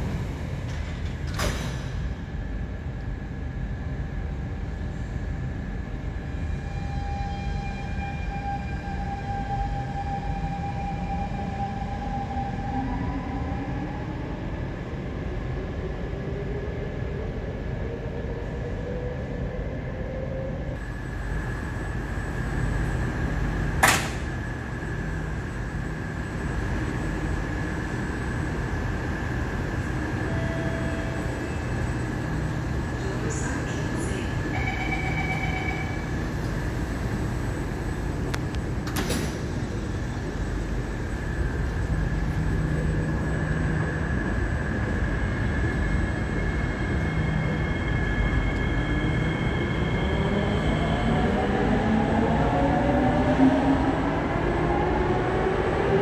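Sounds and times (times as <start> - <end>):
train rumble: 0.0 - 56.0
train rumbling in: 0.0 - 56.0.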